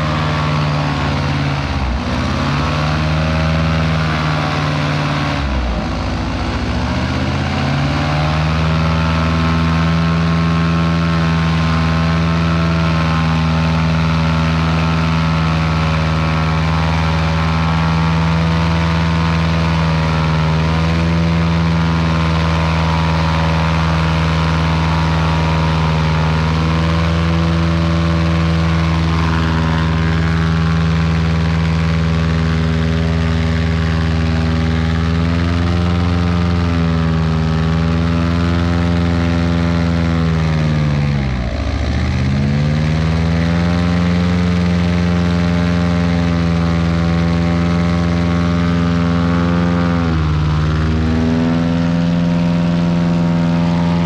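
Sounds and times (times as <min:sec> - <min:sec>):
airboat engine and propeller roaring: 0:00.0 - 0:54.0.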